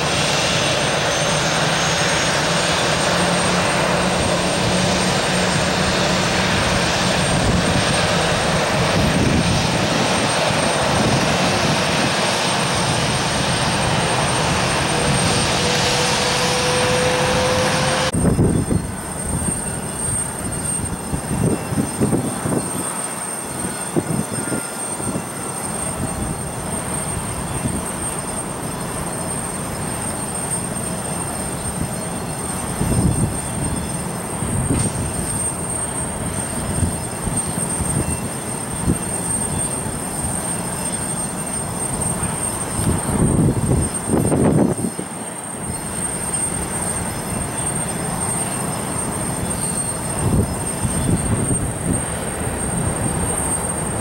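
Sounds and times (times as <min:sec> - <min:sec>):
jet engines running: 0:00.0 - 0:54.0
rising whine: 0:00.0 - 0:54.0.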